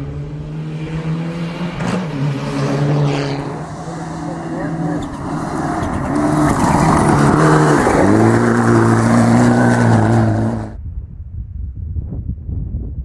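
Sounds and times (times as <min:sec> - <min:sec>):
rally car engine at full throttle: 0:00.0 - 0:10.8
outdoor noise: 0:00.0 - 0:13.0.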